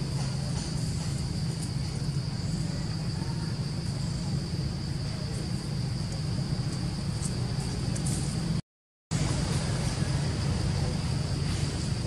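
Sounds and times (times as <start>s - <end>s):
high-pitched insect chorus: 0.0s - 8.6s, 9.2s - 12.0s
constant low rumble: 0.0s - 12.0s.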